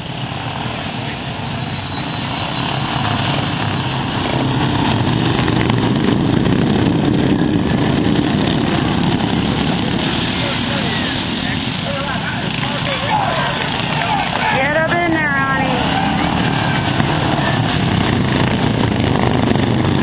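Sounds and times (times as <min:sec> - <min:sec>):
lawn mower engines running: 0:00.0 - 0:20.0.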